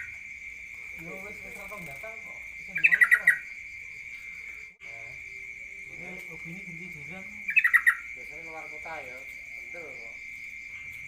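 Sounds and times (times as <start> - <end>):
songbird rapid notes: 0.8 - 10.4.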